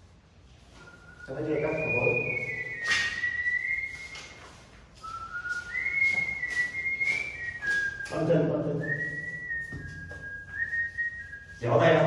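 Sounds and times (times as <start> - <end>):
person whistling a slow tune: 0.7 - 11.6.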